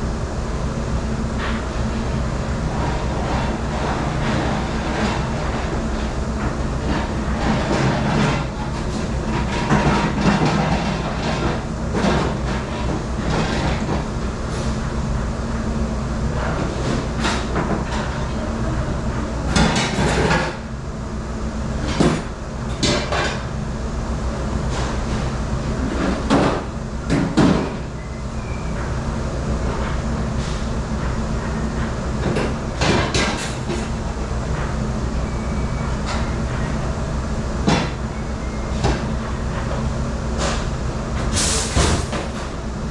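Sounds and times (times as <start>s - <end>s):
dish machine rumbling and humming: 0.0s - 42.9s.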